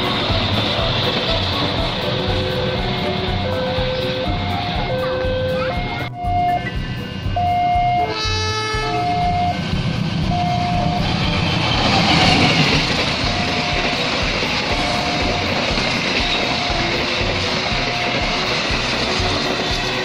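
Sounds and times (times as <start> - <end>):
locomotive horn: 0.0 - 6.7, 7.4 - 9.7, 12.3 - 20.0
background music with held notes: 0.0 - 20.0
train passing close by: 0.0 - 20.0.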